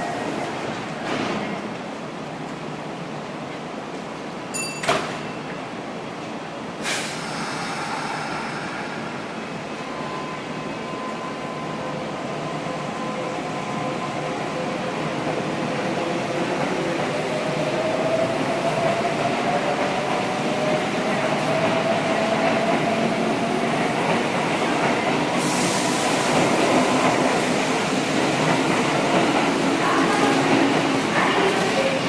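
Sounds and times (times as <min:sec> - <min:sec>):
train doors shutting: 0:00.0 - 0:02.6, 0:04.5 - 0:05.8, 0:06.8 - 0:32.0.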